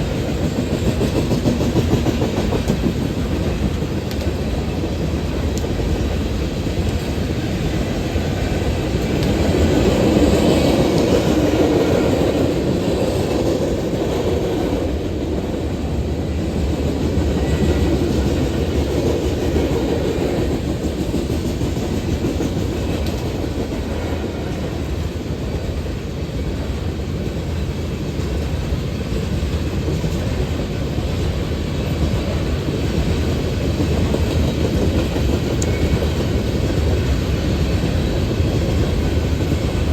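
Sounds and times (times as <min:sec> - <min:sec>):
wheels clicking over rail joints: 0:00.0 - 0:26.4, 0:27.2 - 0:39.9
train cars rumbling past: 0:00.0 - 0:39.9.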